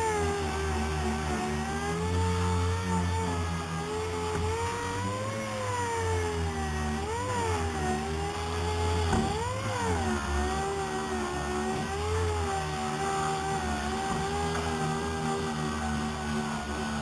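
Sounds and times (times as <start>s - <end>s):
air-powered orbital sander whining: 0.0s - 17.0s.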